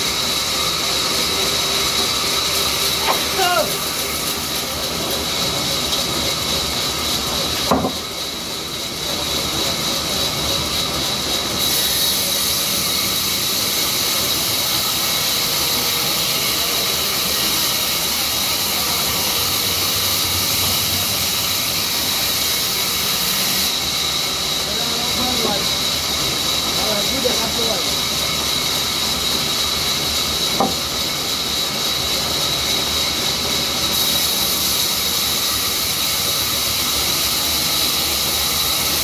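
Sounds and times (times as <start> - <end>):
band saw cutting log: 0.0 - 39.0.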